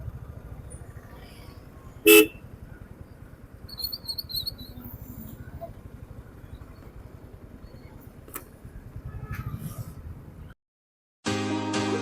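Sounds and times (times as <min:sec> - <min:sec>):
motorcycle engine rumble: 0:00.0 - 0:10.6.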